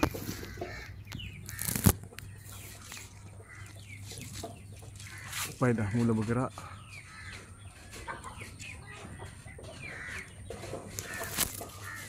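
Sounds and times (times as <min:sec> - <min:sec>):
birds chirping and clucking: 0:00.0 - 0:12.0.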